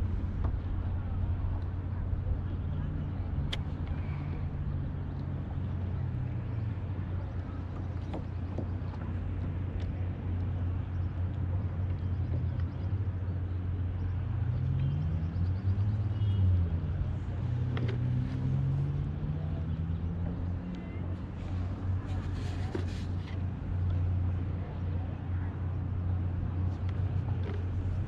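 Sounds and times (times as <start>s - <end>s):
boat motor rumble: 0.0s - 28.0s.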